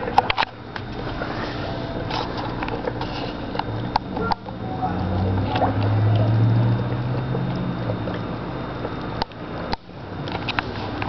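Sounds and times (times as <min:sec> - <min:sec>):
aquarium filter humming: 0:00.0 - 0:11.0
moving water: 0:00.0 - 0:11.0.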